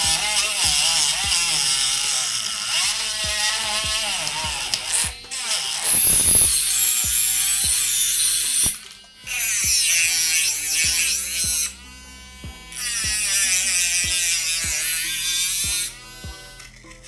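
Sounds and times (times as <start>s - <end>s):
background music with beat: 0.0s - 1.6s, 3.2s - 17.0s
rotary tool grinding steel blade: 0.0s - 17.0s
rotary tool whining: 0.0s - 17.0s.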